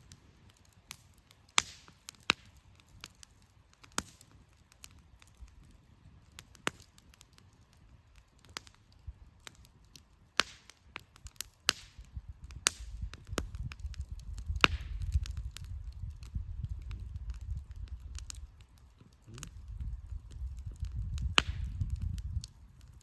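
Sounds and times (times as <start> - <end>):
firewood crackling and popping: 0.0 - 23.0.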